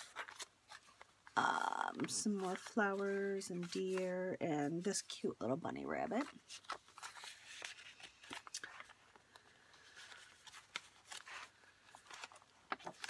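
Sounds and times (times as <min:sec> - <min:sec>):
paper rustling: 0:00.0 - 0:05.2, 0:06.1 - 0:13.0.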